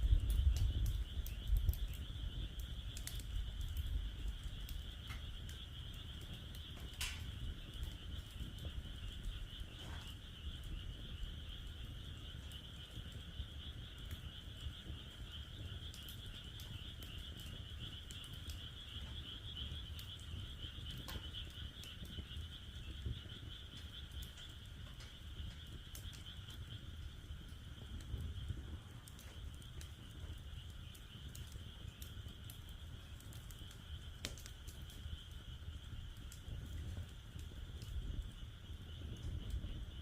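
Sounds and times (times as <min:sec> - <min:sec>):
frogs calling: 0:00.0 - 0:40.0
wood fire crackling: 0:00.0 - 0:40.0.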